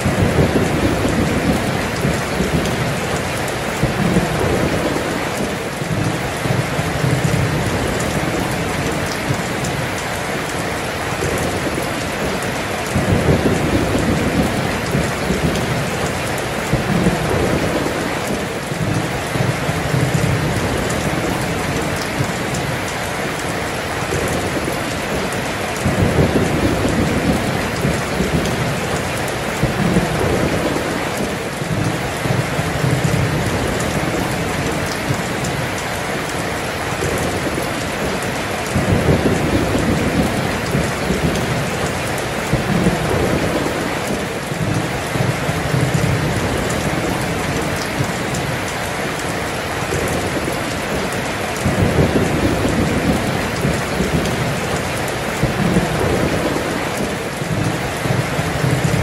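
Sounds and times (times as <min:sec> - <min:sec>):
rolling thunder: 0:00.0 - 0:09.8, 0:10.6 - 0:22.8, 0:23.5 - 0:35.6, 0:36.9 - 0:48.7, 0:49.8 - 0:59.0
heavy rain pouring on street: 0:00.0 - 0:59.0.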